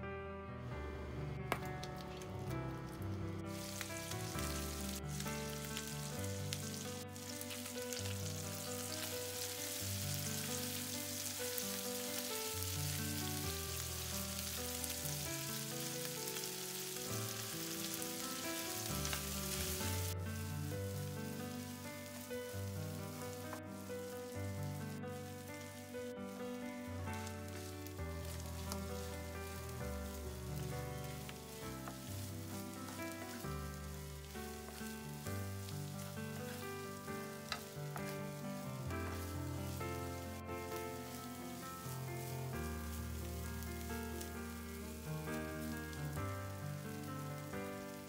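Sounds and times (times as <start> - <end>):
meat sizzling in a pan: 1.5 - 48.0.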